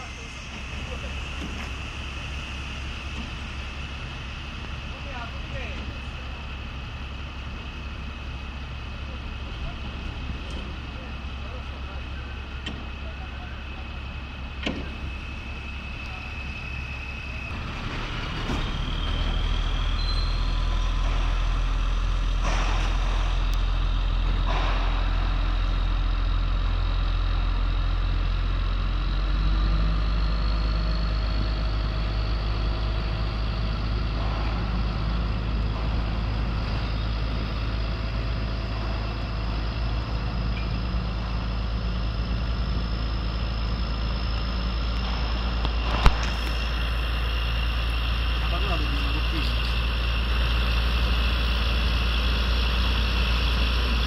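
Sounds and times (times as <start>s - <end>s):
crane engine running: 0.0s - 54.0s.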